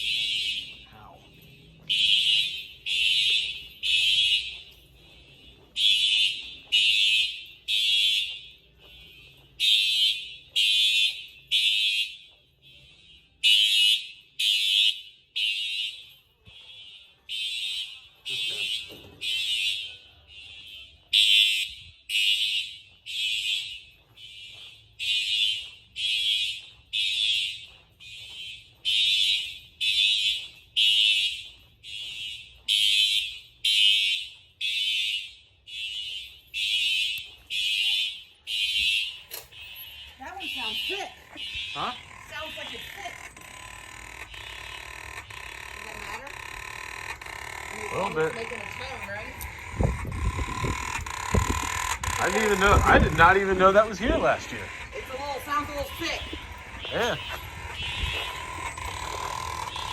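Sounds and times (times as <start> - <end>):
fire alarm horns blasting: 0.0 - 59.9.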